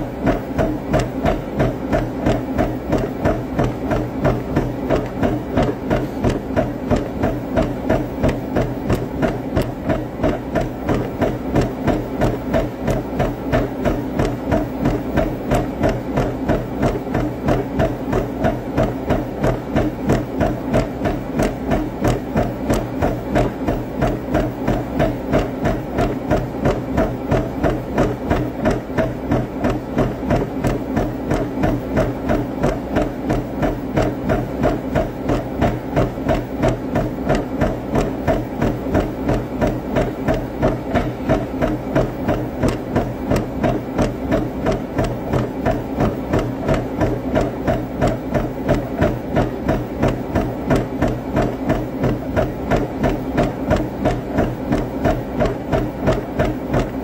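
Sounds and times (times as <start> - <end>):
footfalls on treadmill: 0.0 - 57.0
treadmill motor hum: 0.0 - 57.0.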